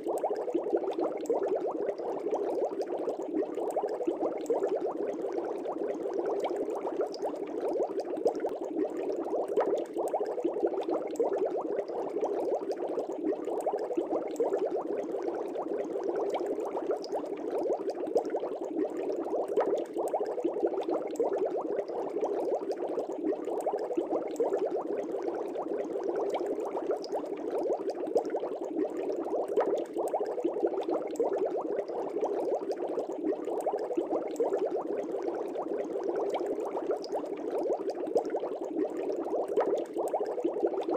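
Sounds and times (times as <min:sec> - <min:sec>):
aquarium bubbling: 0:00.0 - 0:40.9.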